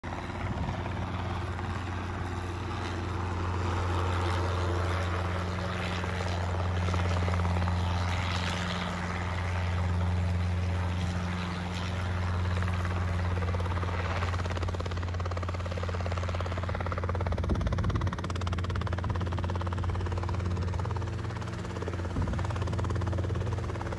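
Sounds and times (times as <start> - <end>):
helicopter flying low: 0.0 - 23.9.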